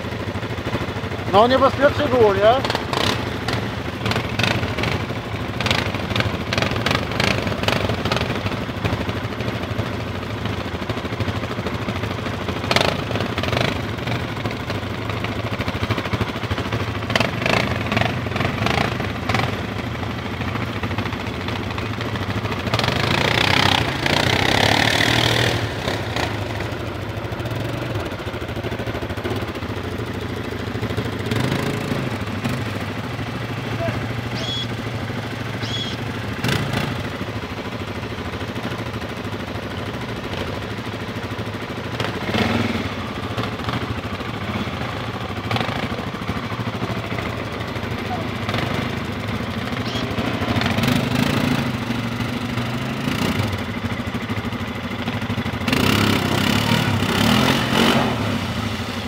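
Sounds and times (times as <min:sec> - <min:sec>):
quad bike engine idling: 0:00.0 - 0:59.0.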